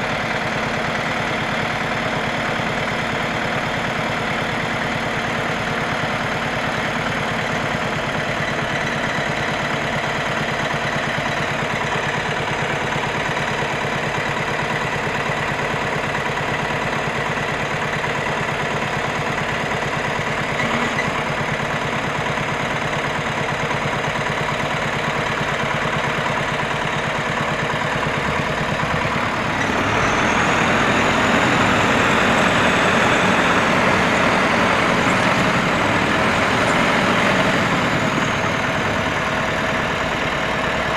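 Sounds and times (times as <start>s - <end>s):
truck diesel engine running: 0.0s - 40.9s.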